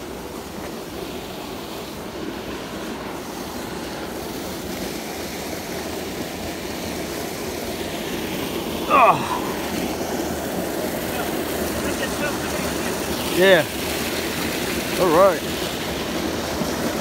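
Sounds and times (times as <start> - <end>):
fast-flowing stream water: 0.0 - 17.0.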